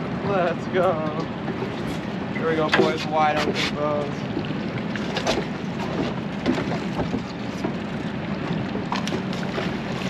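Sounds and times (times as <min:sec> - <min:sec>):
boat engine hum: 0:00.0 - 0:10.0
water noise: 0:00.0 - 0:10.0
wind: 0:00.0 - 0:10.0.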